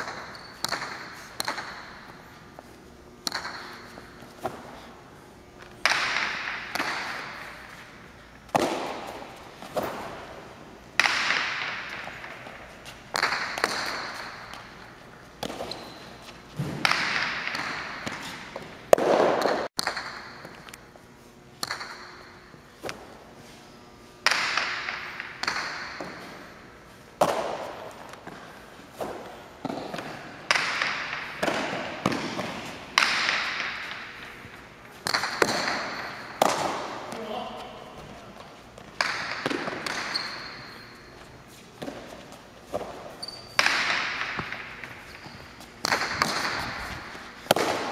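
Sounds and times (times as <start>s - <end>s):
ball cracking against walls echoing: 0.0s - 5.0s, 5.6s - 20.8s, 21.6s - 23.2s, 24.2s - 41.1s, 41.7s - 47.9s.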